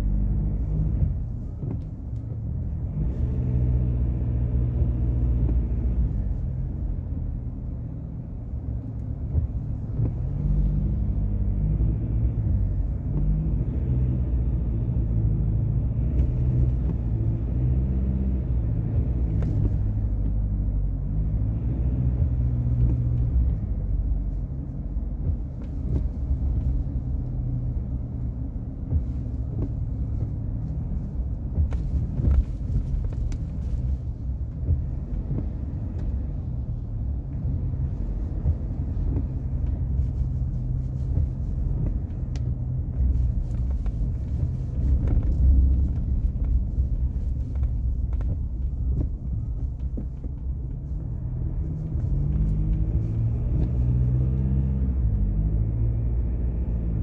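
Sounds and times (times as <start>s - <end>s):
pickup truck engine and road noise: 0.0s - 57.0s.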